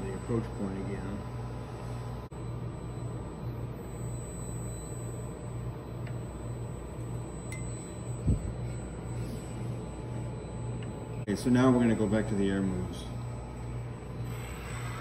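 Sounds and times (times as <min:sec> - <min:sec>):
pulsing low machine hum: 0:00.0 - 0:15.0.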